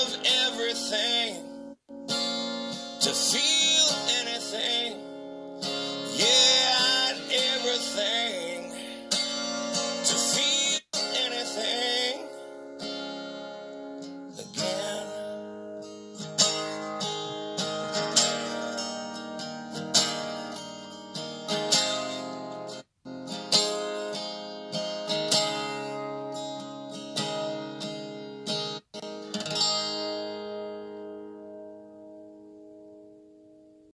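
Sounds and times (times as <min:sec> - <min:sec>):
acoustic guitar strumming: 0:00.0 - 0:33.9.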